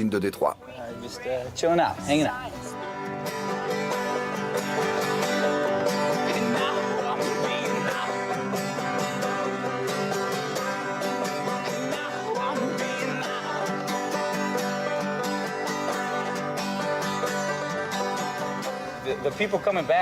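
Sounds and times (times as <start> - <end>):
banjo picking: 0.6 - 20.0
guitar picking: 0.6 - 20.0.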